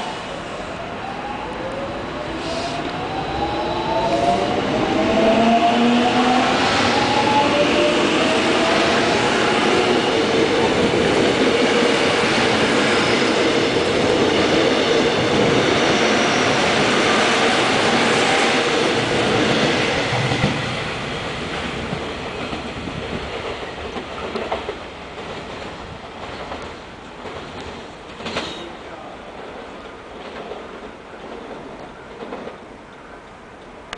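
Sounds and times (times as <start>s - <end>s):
train wheels rumbling on rail: 2.1s - 33.9s.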